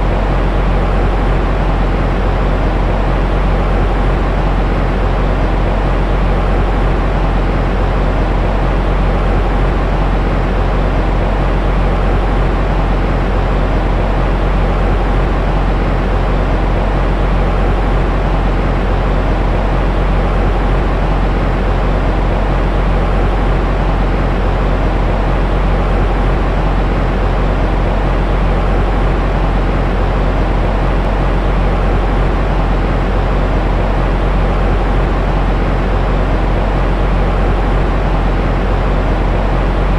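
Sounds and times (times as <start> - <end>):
faint steady hum: 0.0 - 39.9
low white noise: 0.0 - 39.9.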